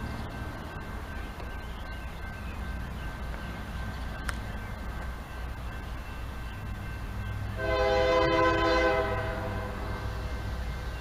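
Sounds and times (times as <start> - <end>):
distant diesel locomotive rumble: 0.0 - 11.0.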